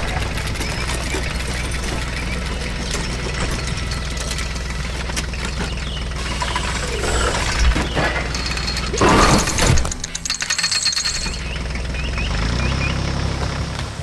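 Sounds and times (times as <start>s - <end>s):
heavy vehicle engine idling: 0.0s - 10.4s, 11.1s - 14.0s.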